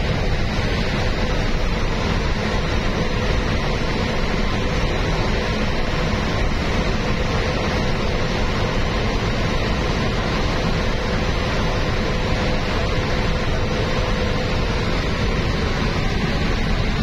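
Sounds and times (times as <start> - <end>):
vehicle road and wind noise: 0.0 - 17.0.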